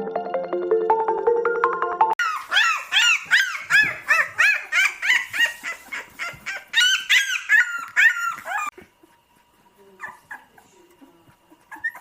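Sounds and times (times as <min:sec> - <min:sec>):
puppies whimpering: 0:02.2 - 0:12.0.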